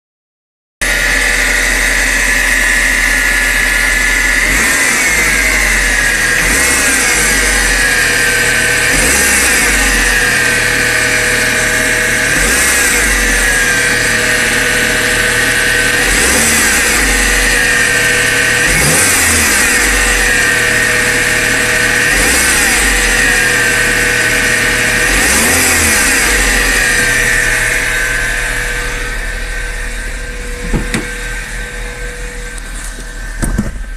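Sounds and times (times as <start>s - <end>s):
car engine revving with whine: 0.8s - 33.9s.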